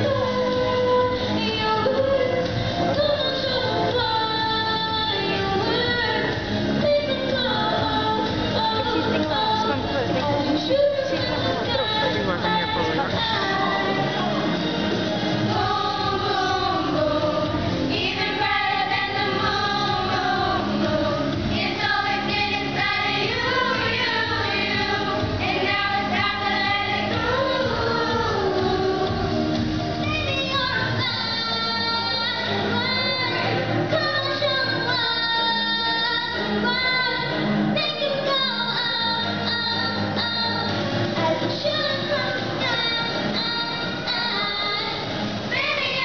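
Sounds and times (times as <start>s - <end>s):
accompanying music: 0.0s - 46.0s
children singing a pop song: 0.0s - 46.0s.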